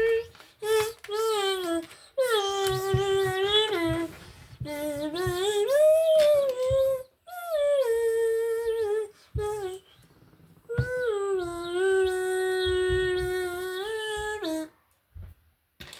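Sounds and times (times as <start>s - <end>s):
child humming: 0.0s - 14.8s.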